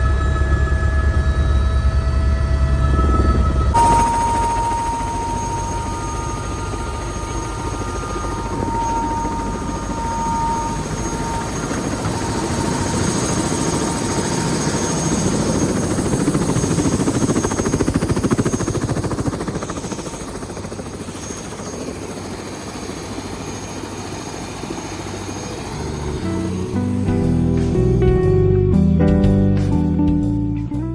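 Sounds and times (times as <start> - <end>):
turbine whine: 0.0 - 28.0
helicopter rotor chop: 1.0 - 27.8.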